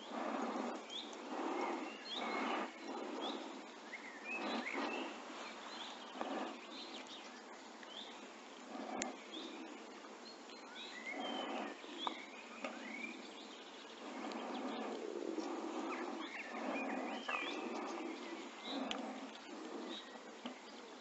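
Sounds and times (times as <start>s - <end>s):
small songbirds chirping: 0.0s - 21.0s.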